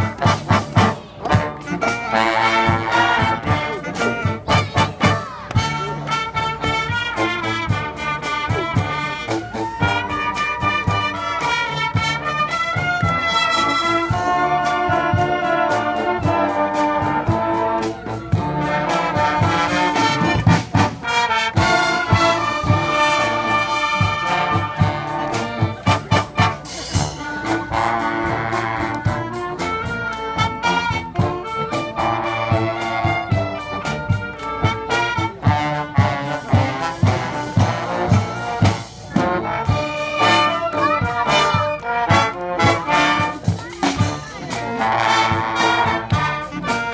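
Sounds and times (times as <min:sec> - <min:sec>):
drum kit beat: 0:00.0 - 0:46.9
marching band playing: 0:00.0 - 0:46.9.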